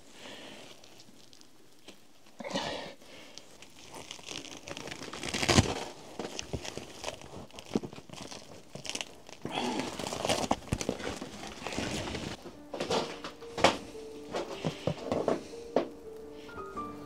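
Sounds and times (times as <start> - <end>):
rustling crinkling handling noises: 0.0 - 2.4, 3.0 - 16.5.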